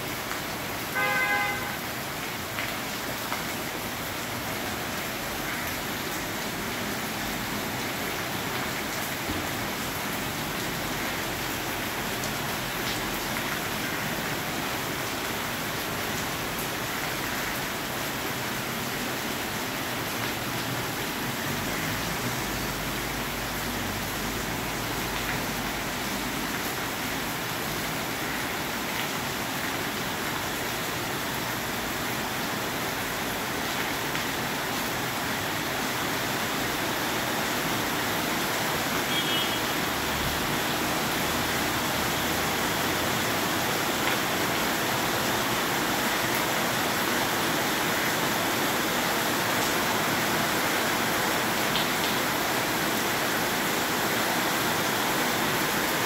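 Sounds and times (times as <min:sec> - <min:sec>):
rain on metal roofs: 0:00.0 - 0:56.0.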